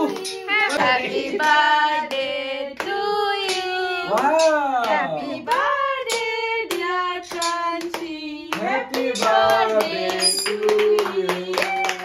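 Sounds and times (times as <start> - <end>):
group of voices singing: 0.0 - 12.0
hands clapping along: 1.4 - 12.0.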